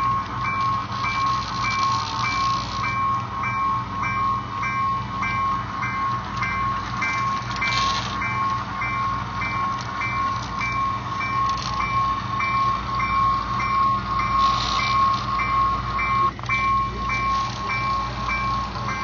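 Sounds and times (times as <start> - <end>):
pulsing higher ring: 0.0 - 19.0
steady ringing tone: 0.0 - 19.0
train rumbling: 0.0 - 19.0.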